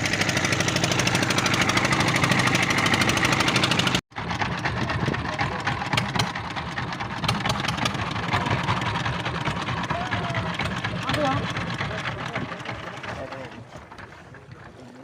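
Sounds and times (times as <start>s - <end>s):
boat engine knocking: 0.0s - 15.0s.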